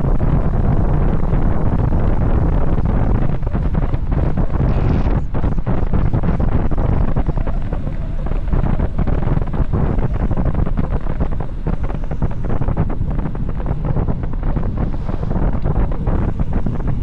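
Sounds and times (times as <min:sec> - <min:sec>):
wind buffeting on microphone: 0:00.0 - 0:17.0.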